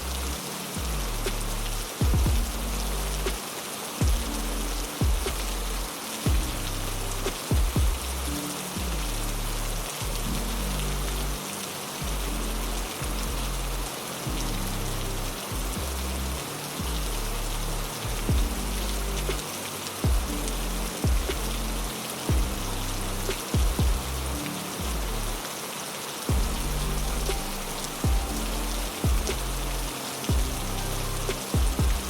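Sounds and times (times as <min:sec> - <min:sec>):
deep bass music: 0:00.0 - 0:03.4, 0:04.0 - 0:25.6, 0:26.3 - 0:32.0
rain hiss: 0:00.0 - 0:32.0.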